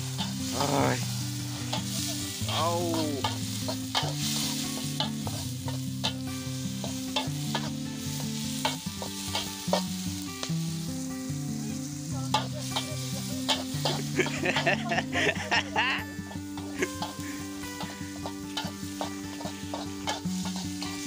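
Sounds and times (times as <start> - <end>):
metal spatula scraping a pan: 0.0 - 2.6, 3.2 - 10.3, 11.8 - 14.8, 16.2 - 21.0
oil sizzling in a wok: 0.0 - 21.0.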